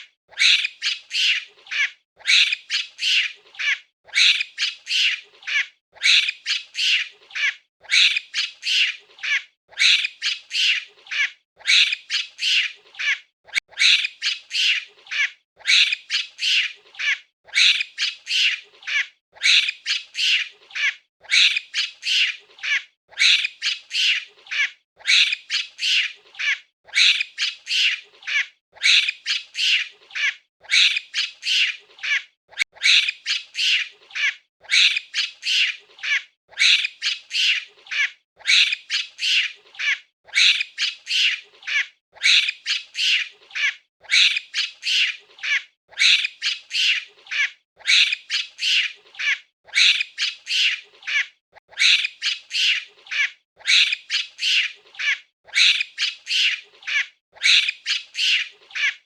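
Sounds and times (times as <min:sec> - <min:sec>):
monkey high-pitched calls: 0:00.0 - 0:59.0.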